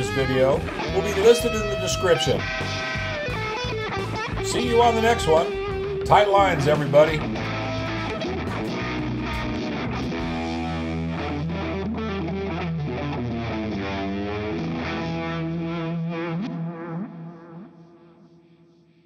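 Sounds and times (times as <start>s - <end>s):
instrumental background music: 0.0s - 18.1s.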